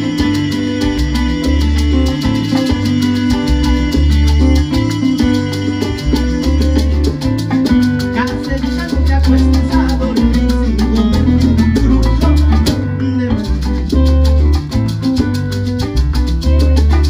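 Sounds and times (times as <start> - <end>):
maracas shaking: 0.0 - 17.0
salsa band playing: 0.0 - 17.0.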